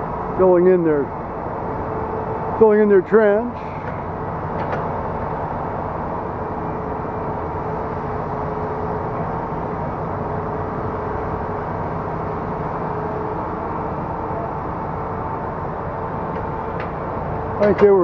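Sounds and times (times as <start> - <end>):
construction machinery engine running: 0.0 - 18.0.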